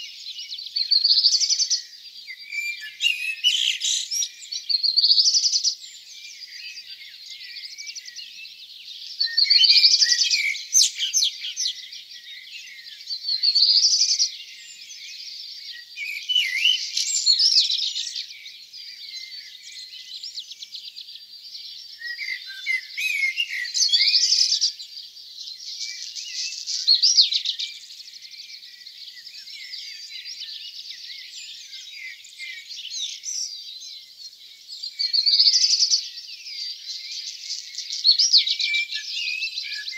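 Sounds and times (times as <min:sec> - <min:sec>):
many birds chirping: 0:00.0 - 0:39.9
songbird song phrases: 0:00.0 - 0:39.9.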